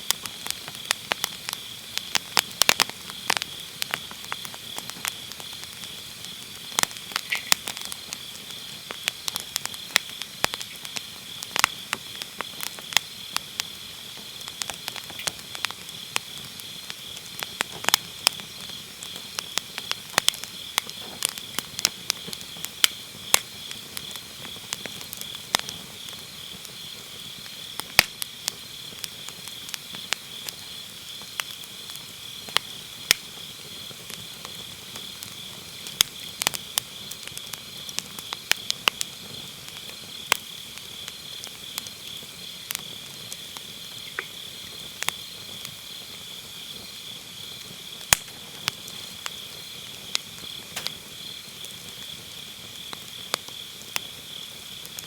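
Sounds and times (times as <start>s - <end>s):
firewood crackling and popping: 0.0s - 55.0s
insects chirring: 0.0s - 55.0s.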